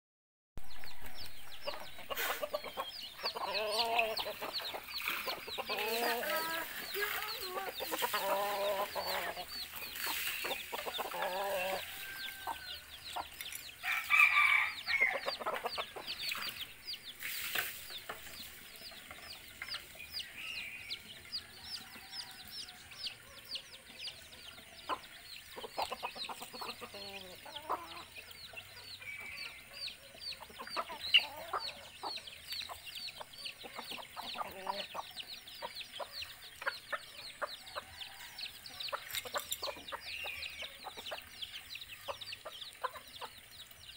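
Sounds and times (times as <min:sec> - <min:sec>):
roosters clucking: 0:00.6 - 0:43.9.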